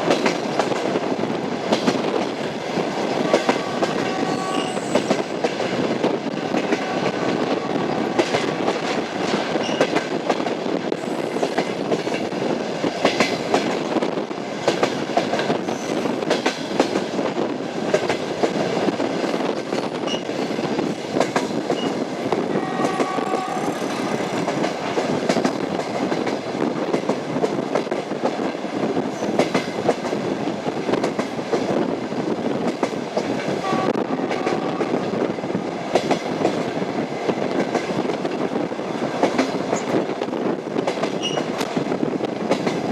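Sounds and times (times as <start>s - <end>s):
railway car rumble: 0.0s - 42.9s
train wheels knocking on rail joints: 0.0s - 42.9s.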